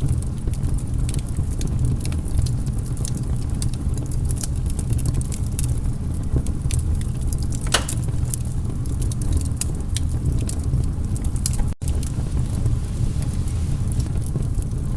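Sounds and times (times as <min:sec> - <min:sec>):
low rumble of flames: 0:00.0 - 0:14.9
wood fire crackling and popping: 0:00.0 - 0:14.9.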